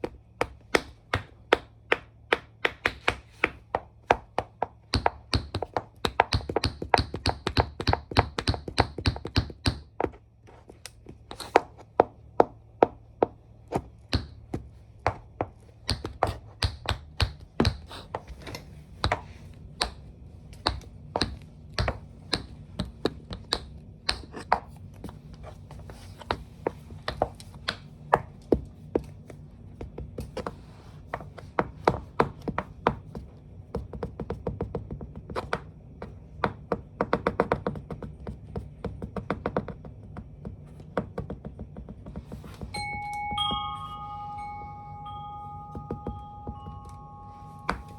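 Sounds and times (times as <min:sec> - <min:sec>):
tap shoes clicking on hard floor: 0:00.0 - 0:42.8, 0:45.7 - 0:47.0
faint low hum: 0:00.0 - 0:47.9.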